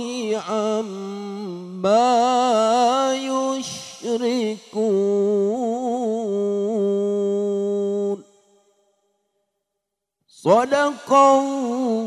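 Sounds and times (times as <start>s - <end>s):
man reciting melodically into microphone: 0.0s - 8.5s, 10.3s - 12.0s.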